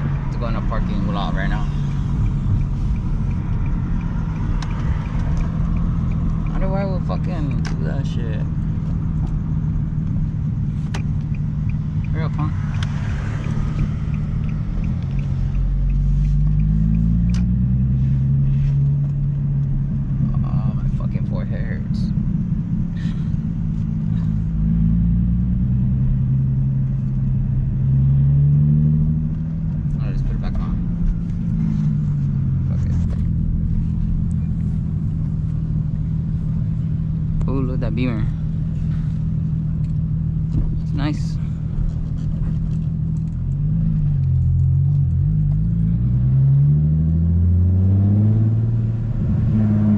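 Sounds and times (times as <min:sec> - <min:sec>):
car exhaust rumble pulling away: 0:00.0 - 0:49.9.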